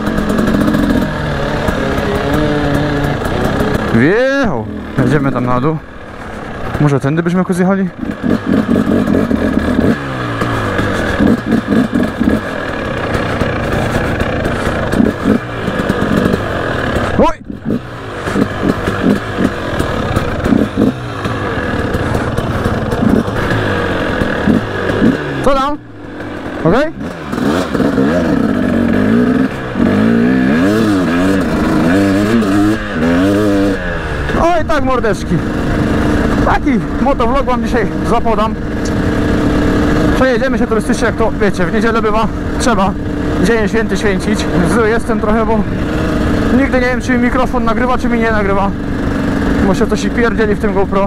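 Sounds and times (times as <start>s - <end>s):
motocross bike engine: 0.0s - 51.0s.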